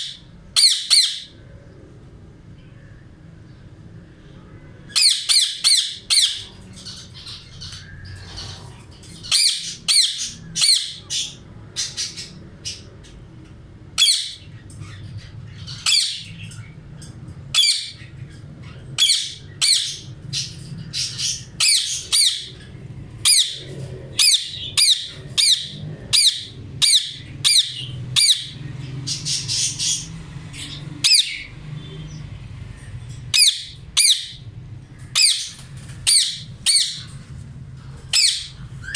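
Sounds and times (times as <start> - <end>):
parakeets squawking: 0.0 - 1.4, 4.9 - 38.9.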